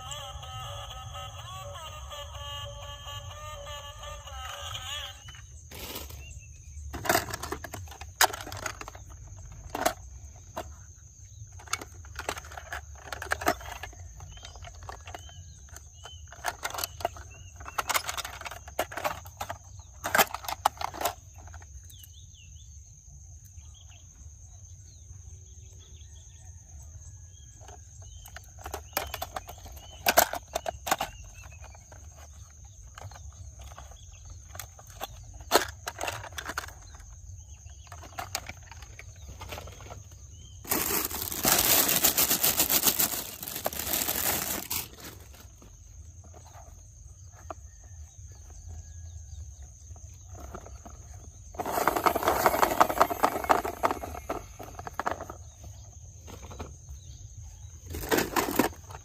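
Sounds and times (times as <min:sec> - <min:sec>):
plastic toy cars clicking: 0:00.0 - 0:22.2, 0:27.5 - 0:47.6, 0:49.9 - 0:56.8, 0:57.8 - 0:59.0.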